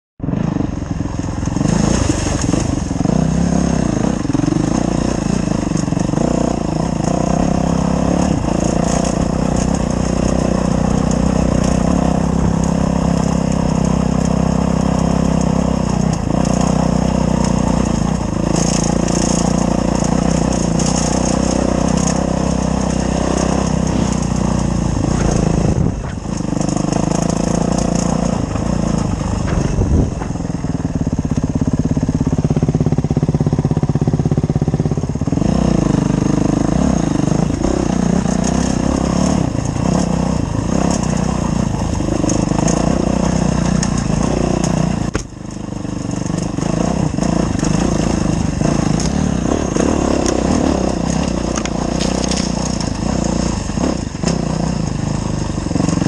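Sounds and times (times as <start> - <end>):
dirt bike engine revving: 0.2 - 56.0.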